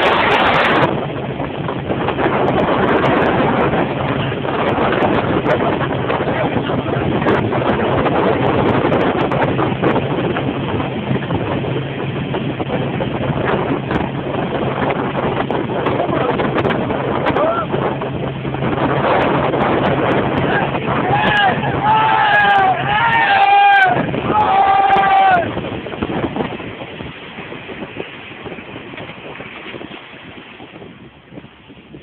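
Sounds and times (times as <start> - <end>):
motorboat engine hum: 0.0 - 32.0
wind and water rushing: 0.0 - 32.0.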